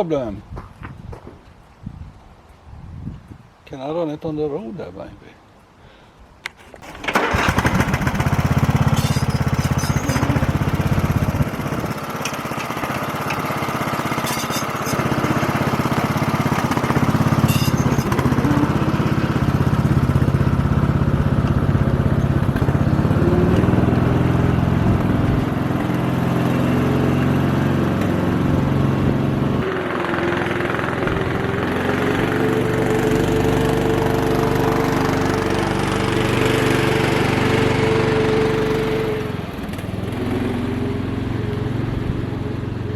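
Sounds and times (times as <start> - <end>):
garden tractor engine running: 6.7 - 42.9.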